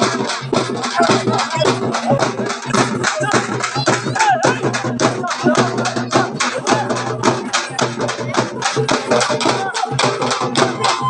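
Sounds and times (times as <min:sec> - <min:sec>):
crowd voices: 0:00.0 - 0:11.0
drums beaten fast: 0:00.0 - 0:11.0.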